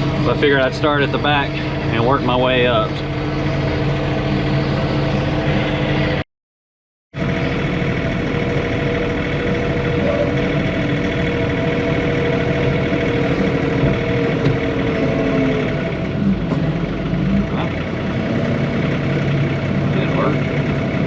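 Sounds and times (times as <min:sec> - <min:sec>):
tractor diesel engine running: 0:00.0 - 0:06.2, 0:07.1 - 0:21.0.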